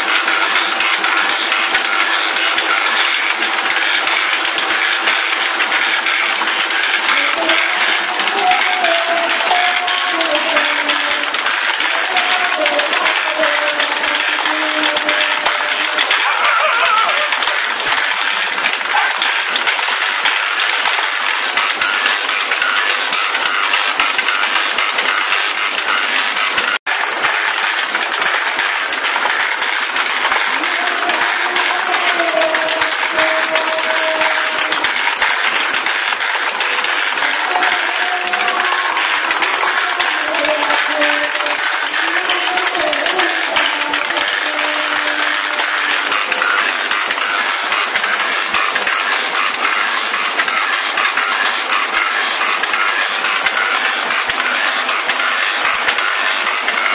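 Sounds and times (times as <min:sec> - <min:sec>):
electrical contactors clacking: 0:00.0 - 0:56.9
faint music: 0:00.0 - 0:56.9
metallic clicking and clatter: 0:00.0 - 0:56.9.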